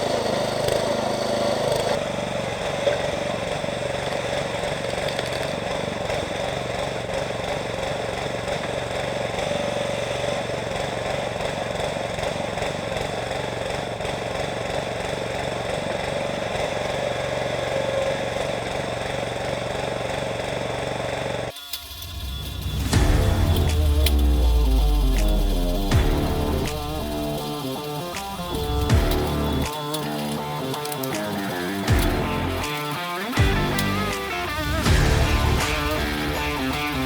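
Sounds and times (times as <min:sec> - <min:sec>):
small petrol engine running: 0:00.0 - 0:37.0.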